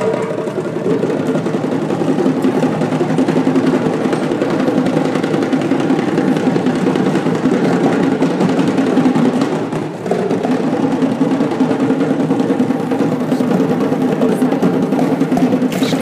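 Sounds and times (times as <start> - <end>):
hand drums playing fast rhythm: 0.0 - 16.0.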